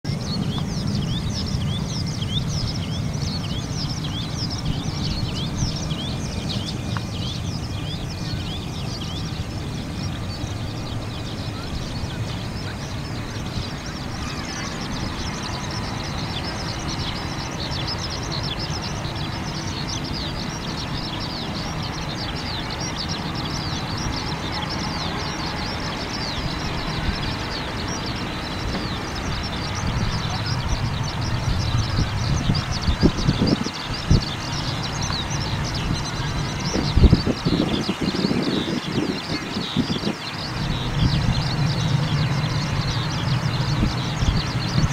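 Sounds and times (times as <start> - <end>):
chorus of rapid chirping calls: 0.1 - 44.9
jet engines idling rumble: 0.1 - 44.9.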